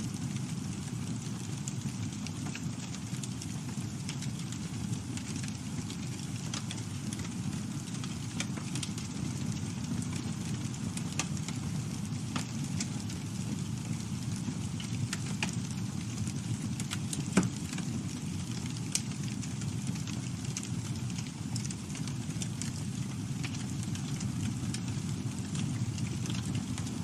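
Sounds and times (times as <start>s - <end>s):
burning wood crackling and popping: 0.0s - 27.0s
low rumble of flames: 0.0s - 27.0s.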